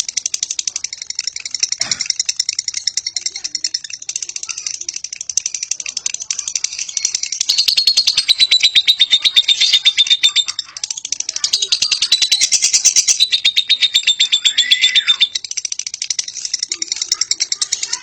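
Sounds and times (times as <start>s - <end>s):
lovebird chattering trill: 0.0s - 18.0s.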